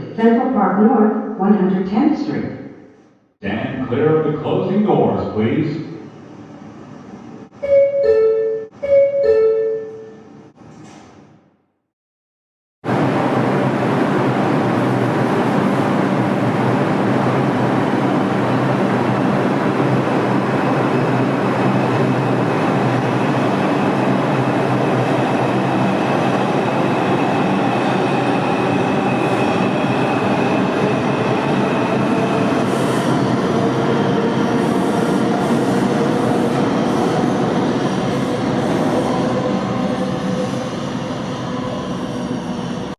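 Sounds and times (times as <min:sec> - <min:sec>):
subway train rumbling on track: 0:03.4 - 0:11.5, 0:12.8 - 0:42.9.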